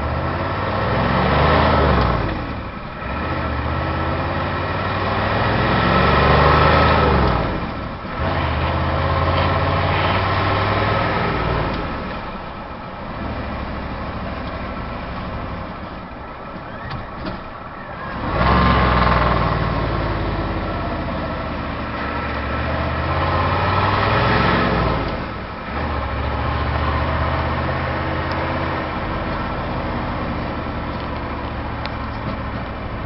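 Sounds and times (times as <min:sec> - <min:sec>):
turbocharged car engine revving: 0:00.0 - 0:12.4, 0:18.1 - 0:33.0.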